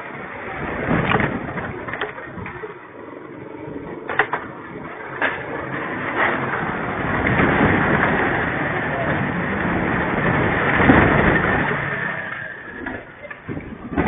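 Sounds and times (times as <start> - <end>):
strong gusty wind: 0.0 - 14.0.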